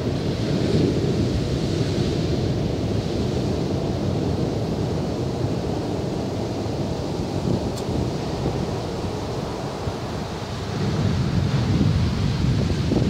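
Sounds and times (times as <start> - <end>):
sea surf breaking on shore: 0.0 - 13.0
wind buffeting microphone: 0.0 - 13.0.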